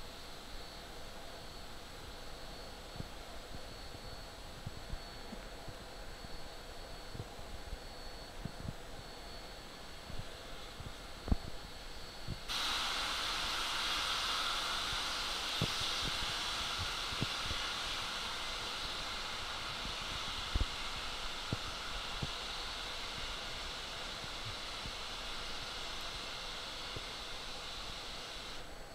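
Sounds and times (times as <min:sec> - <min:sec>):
steam hissing from locomotive: 0:00.0 - 0:28.9.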